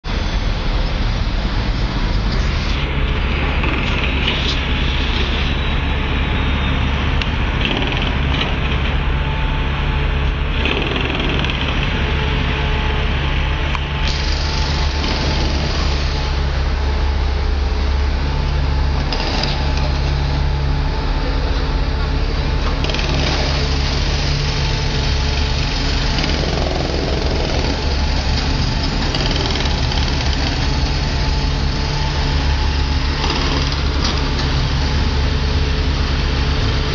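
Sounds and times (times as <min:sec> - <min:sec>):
city traffic drone: 0:00.0 - 0:36.9.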